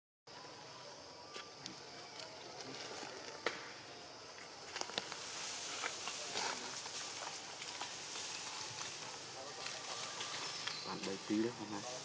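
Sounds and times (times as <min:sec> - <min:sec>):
hissing rustle: 0:01.6 - 0:12.0.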